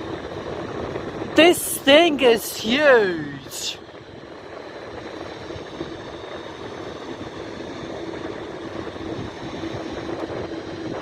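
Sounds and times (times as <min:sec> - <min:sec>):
jet engines droning: 0:00.0 - 0:11.0.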